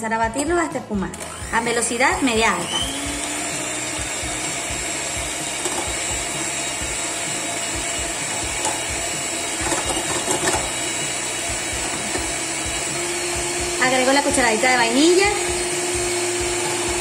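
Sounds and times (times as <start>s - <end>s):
electric hand mixer whipping eggs: 0.1s - 17.0s.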